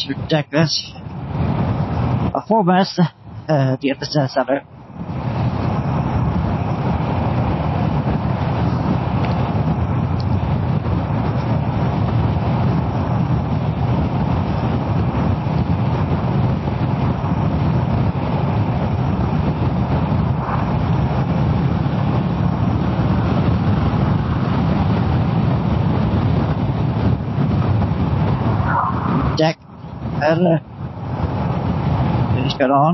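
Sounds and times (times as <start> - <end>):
wind and road rush: 0.0 - 32.9.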